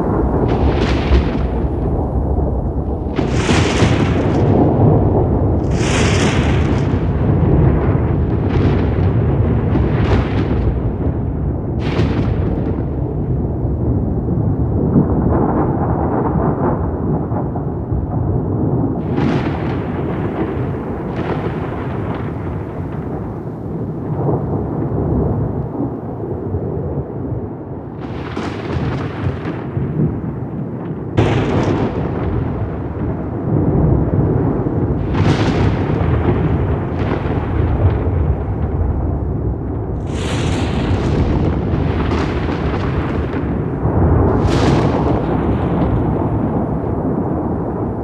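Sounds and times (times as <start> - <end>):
rolling thunder rumbling: 0.0 - 48.0
sharp thunder cracks: 0.0 - 48.0.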